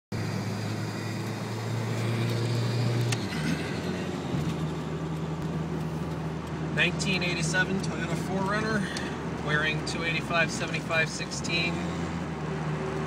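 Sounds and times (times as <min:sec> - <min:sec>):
steady tyre drone: 0:00.1 - 0:13.0.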